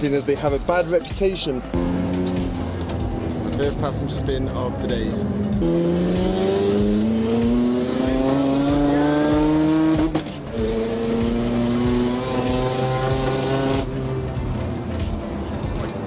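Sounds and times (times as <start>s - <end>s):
rotary engine accelerating: 1.7s - 16.0s.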